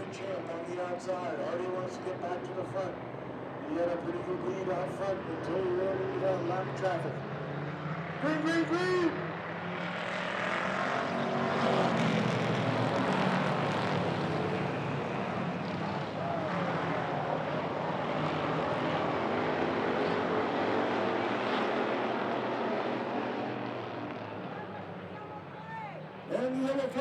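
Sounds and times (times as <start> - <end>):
race car engines at full throttle: 0.0 - 27.0.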